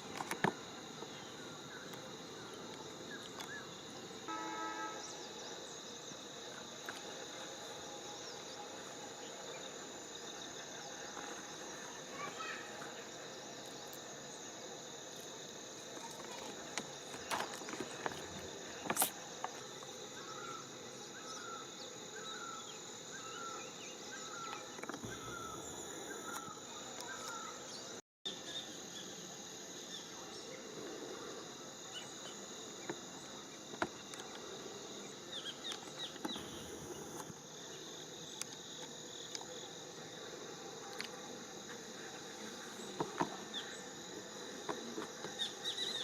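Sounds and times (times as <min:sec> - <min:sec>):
insects chirping: 0:00.0 - 0:46.0.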